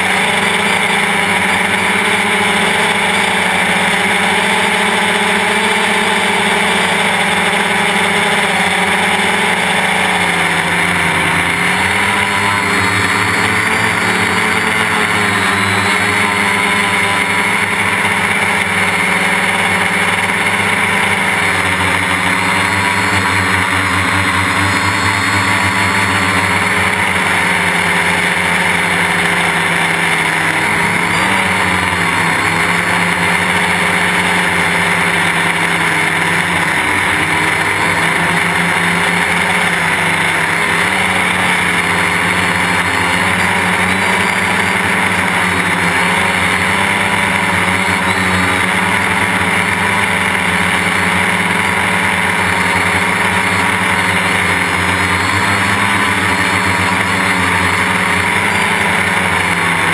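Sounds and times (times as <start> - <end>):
drone motors and propellers buzzing: 0.0 - 59.9.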